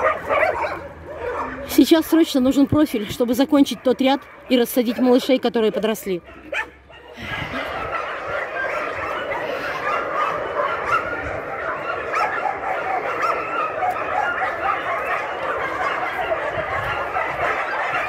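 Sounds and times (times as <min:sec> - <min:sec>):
many dogs barking: 0:00.0 - 0:18.0.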